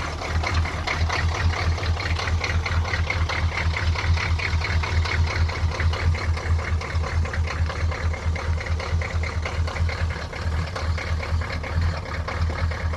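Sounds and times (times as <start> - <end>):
diesel engine idling roughly: 0.0 - 12.9.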